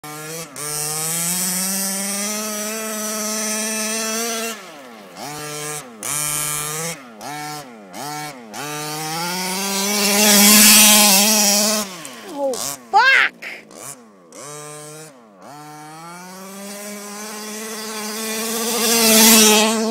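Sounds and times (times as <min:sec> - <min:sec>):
rc car engine revving: 0:00.0 - 0:19.9.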